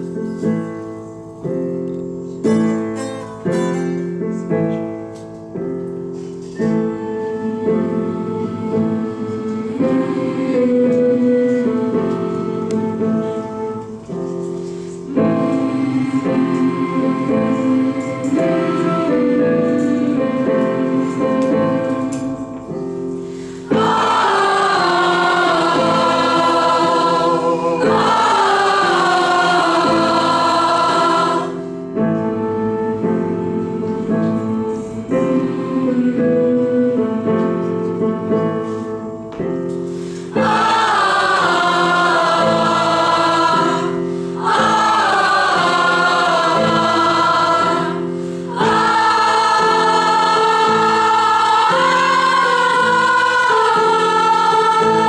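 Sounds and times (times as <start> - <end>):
instrumental accompaniment: 0.0 - 55.0
choir singing: 6.6 - 14.1, 14.7 - 37.3, 40.2 - 55.0.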